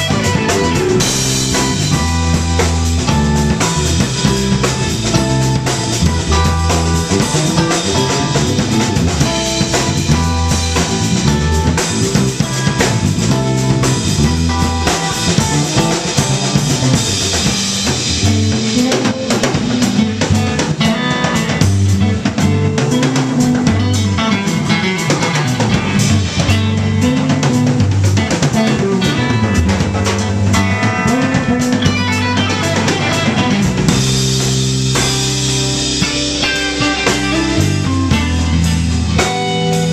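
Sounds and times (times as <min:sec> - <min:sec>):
drum and cymbal hits: 0:00.0 - 0:39.9
electric bass line: 0:00.0 - 0:39.9
electric guitar: 0:00.0 - 0:39.9.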